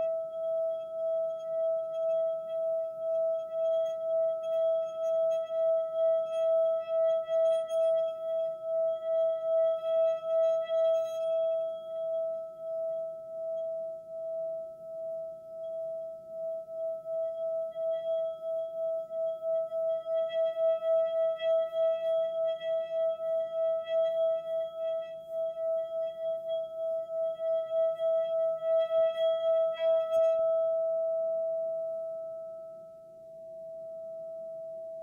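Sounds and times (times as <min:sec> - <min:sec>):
plain steady tone: 0:00.0 - 0:35.0
wavering ringing tone: 0:00.0 - 0:35.0.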